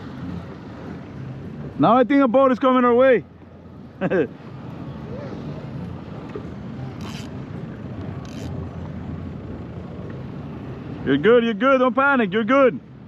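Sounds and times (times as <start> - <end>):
motorboat engine rumble: 0.0 - 13.0.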